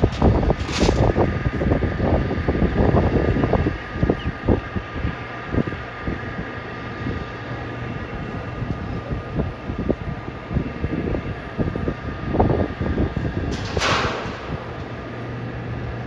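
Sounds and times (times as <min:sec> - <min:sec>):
jet engines whining: 0:00.0 - 0:16.0
wind buffeting microphone: 0:00.0 - 0:16.0.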